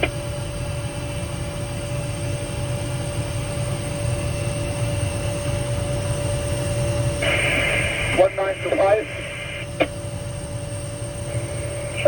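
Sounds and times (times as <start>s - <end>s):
aircraft engines idling: 0.0s - 12.0s.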